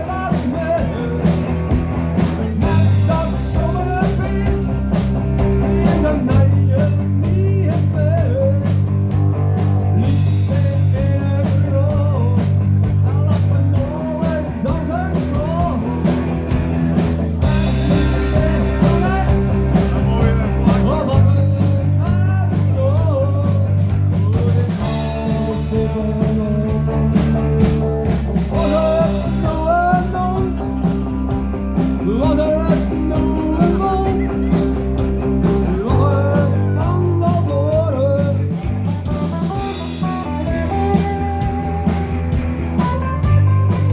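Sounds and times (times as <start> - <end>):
rock music with guitar and drums: 0.0 - 43.9.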